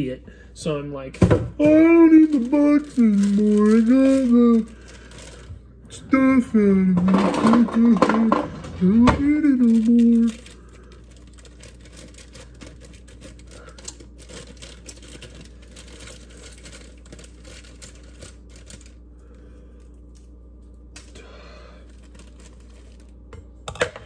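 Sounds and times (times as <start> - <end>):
plastic bag crinkling and tearing: 1.6 - 21.2, 21.8 - 23.3.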